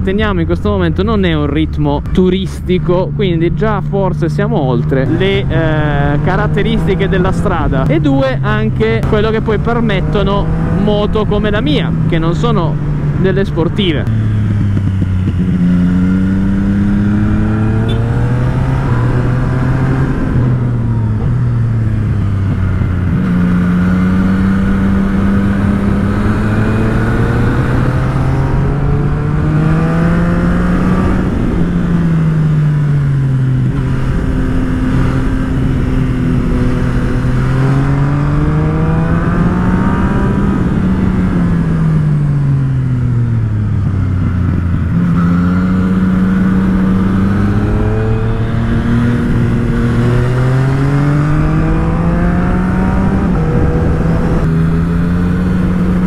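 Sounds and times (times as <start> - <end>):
motorcycle engine revving: 0.0 - 56.0
wind noise: 5.0 - 56.0.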